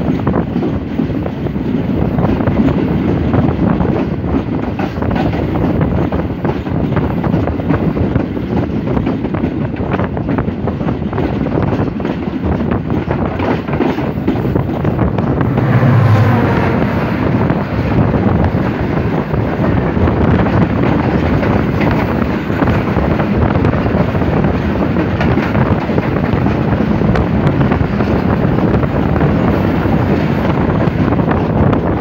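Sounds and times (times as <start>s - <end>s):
train wheel clatter: 0.0s - 32.0s
wind buffeting microphone: 0.0s - 32.0s.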